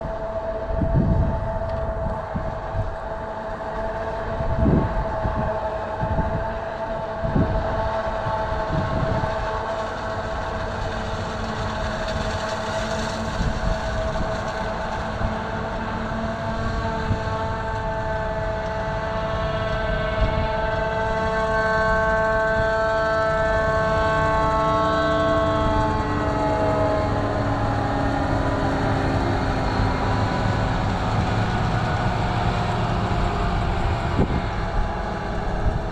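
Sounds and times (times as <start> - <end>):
engine rumble: 0.0 - 35.9.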